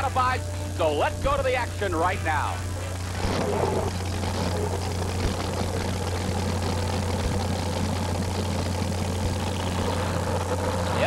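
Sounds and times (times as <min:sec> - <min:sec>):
pulling truck engine idling: 0:00.0 - 0:11.0.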